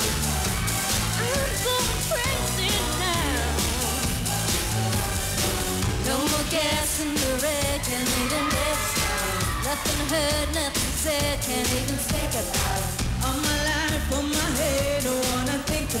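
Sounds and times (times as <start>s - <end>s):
dance-pop backing track: 0.0s - 16.0s
woman singing pop song: 0.0s - 16.0s.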